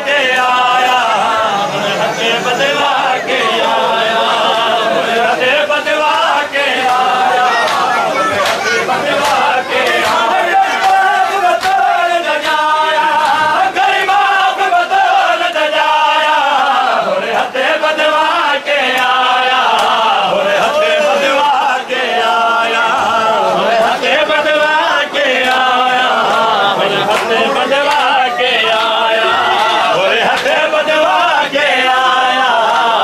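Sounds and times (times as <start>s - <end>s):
men chanting in unison: 0.0s - 33.0s.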